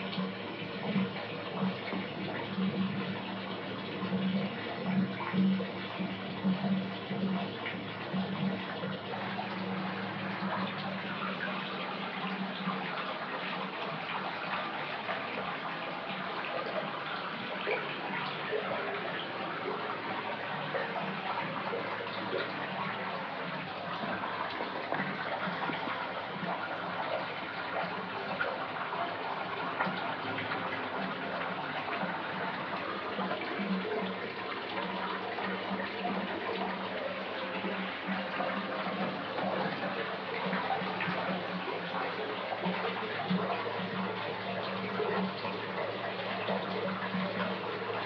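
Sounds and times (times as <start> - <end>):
tap water filling bathtub: 0.0 - 48.0.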